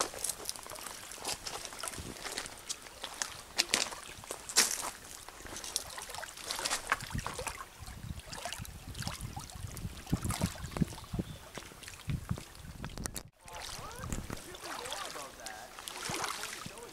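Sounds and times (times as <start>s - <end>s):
trickling water: 0.0s - 16.9s
water splashes: 0.0s - 16.9s
waves lapping against hull: 0.0s - 16.9s.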